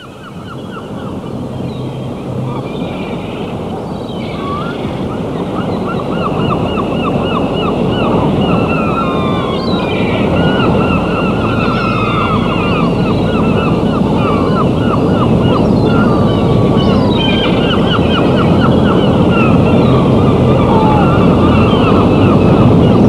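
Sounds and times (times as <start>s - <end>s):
churning sea water: 0.0s - 23.0s
gulls calling: 0.0s - 23.0s.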